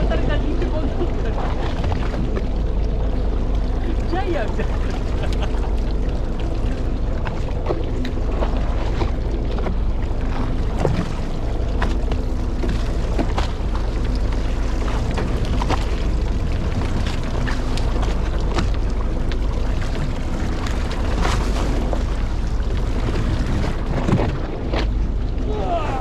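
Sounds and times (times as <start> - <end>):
boat engine rumbling: 0.0 - 26.0
water splashing along hull: 0.0 - 26.0.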